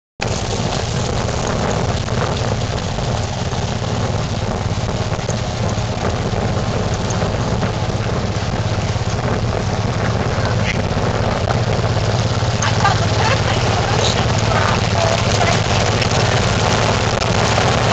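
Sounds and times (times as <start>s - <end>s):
sled rumbling on dirt trail: 0.2s - 17.9s
wind buffeting microphone: 0.2s - 17.9s.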